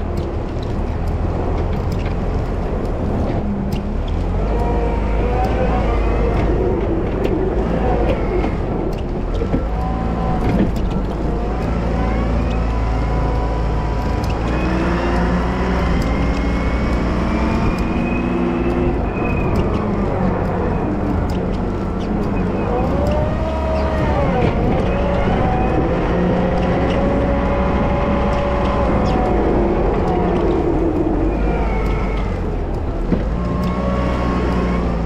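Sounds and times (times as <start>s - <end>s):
engine whine: 0.0s - 35.0s
light ticks: 0.0s - 35.0s
wheel loader engine running: 0.0s - 35.0s.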